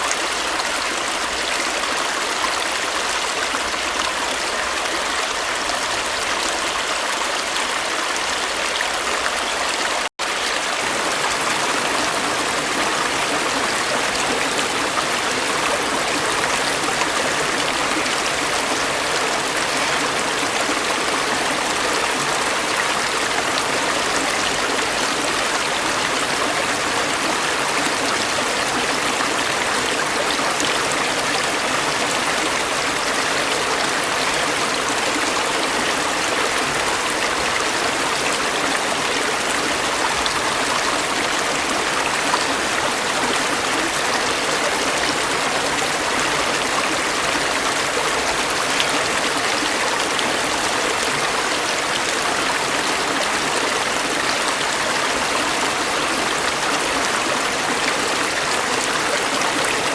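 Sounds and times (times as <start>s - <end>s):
stream water flowing and splashing: 0.0s - 59.9s.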